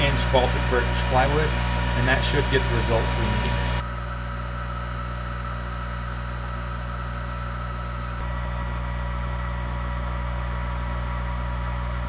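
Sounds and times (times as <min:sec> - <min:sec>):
pump and fans humming: 0:00.0 - 0:12.0.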